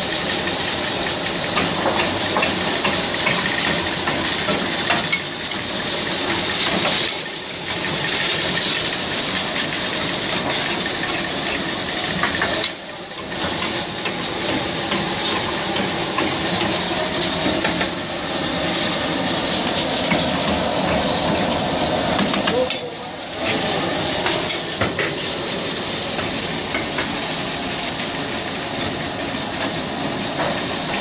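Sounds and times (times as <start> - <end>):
curry sizzling and bubbling in pans: 0.0 - 31.0.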